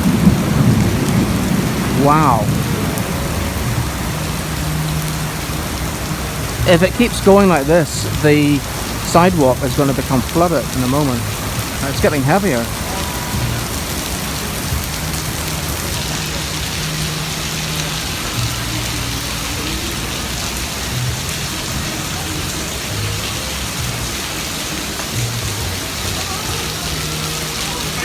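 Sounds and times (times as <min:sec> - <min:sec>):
heavy rain on pavement: 0:00.0 - 0:28.0.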